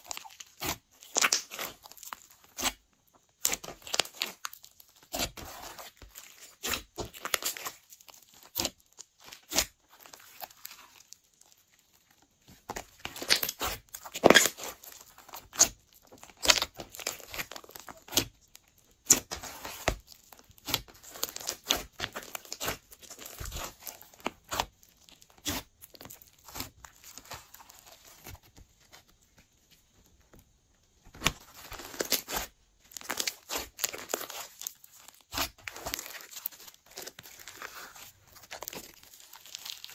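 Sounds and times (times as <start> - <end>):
slime squelching and popping: 0.0 - 11.6, 12.7 - 28.5, 31.1 - 39.9.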